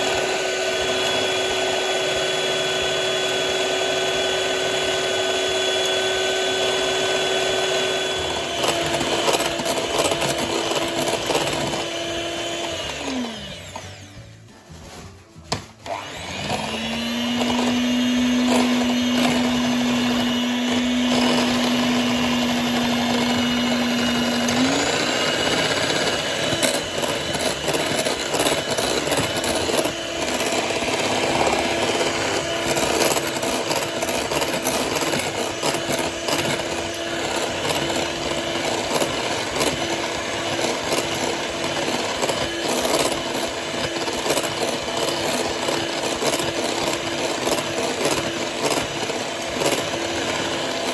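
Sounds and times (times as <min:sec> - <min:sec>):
electric hand mixer whisking eggs: 0:00.0 - 0:14.4, 0:15.4 - 0:50.9.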